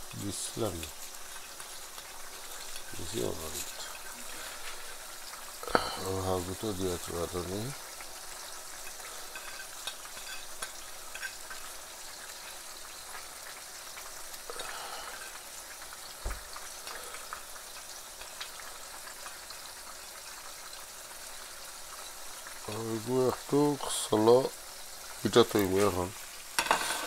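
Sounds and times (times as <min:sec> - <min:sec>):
curry sizzling and bubbling: 0:00.0 - 0:27.0.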